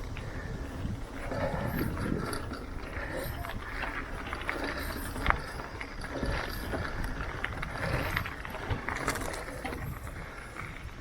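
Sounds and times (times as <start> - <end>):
bike clicks and rattles: 0.0 - 11.0
bike tyres rumbling on dirt: 0.0 - 11.0.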